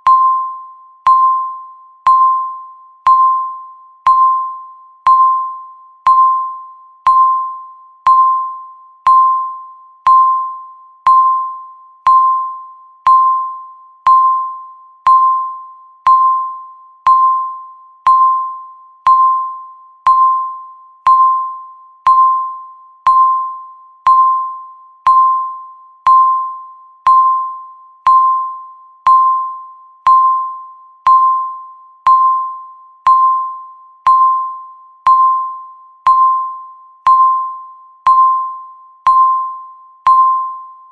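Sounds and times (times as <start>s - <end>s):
countdown timer beeping: 0.0s - 40.9s.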